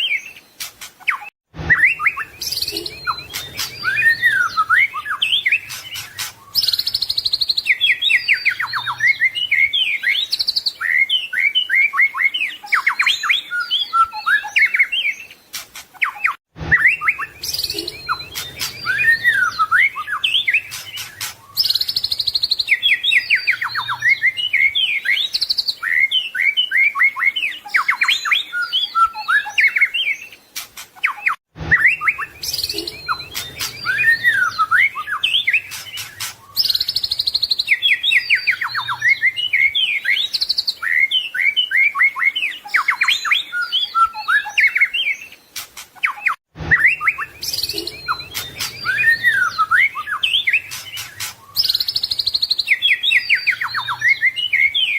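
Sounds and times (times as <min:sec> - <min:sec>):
bird singing whistles and trills: 0:00.0 - 0:54.9.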